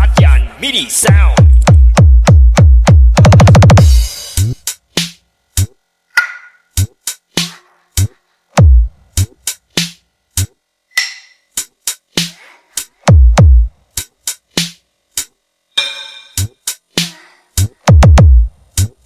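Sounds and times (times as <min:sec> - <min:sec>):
electronic drum machine beat: 0:00.0 - 0:19.0.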